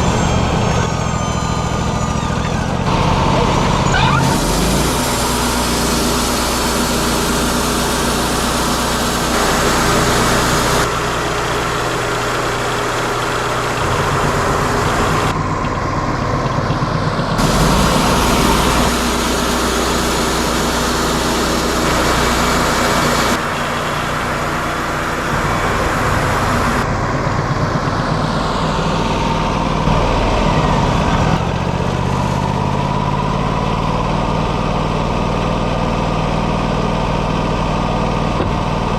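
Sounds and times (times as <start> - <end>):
sawmill engine droning: 0.0 - 38.9.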